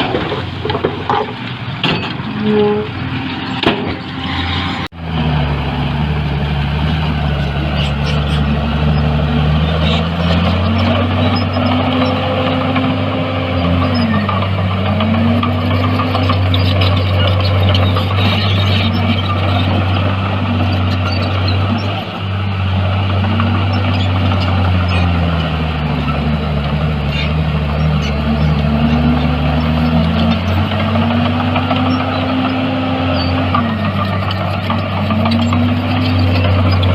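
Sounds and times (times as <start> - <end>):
diesel engine under load: 0.0 - 36.9.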